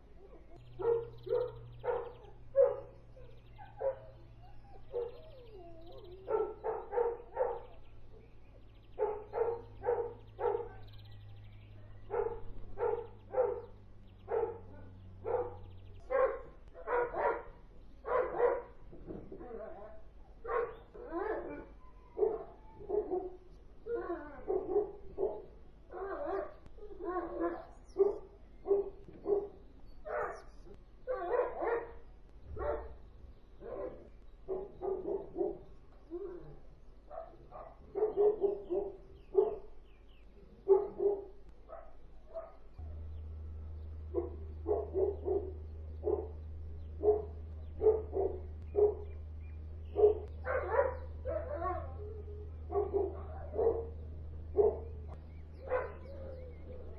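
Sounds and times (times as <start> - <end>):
dogs barking: 0.0 - 56.9
steady low hum: 0.0 - 56.9.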